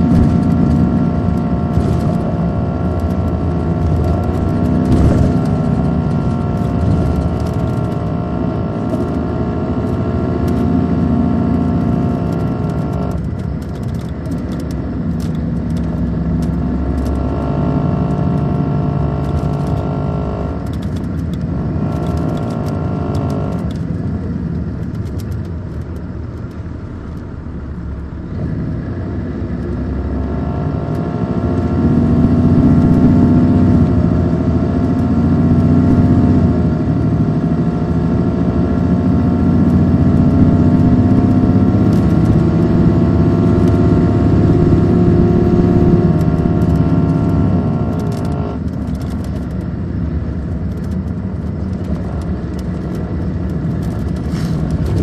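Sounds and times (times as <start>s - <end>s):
diesel bus engine running: 0.0s - 55.0s.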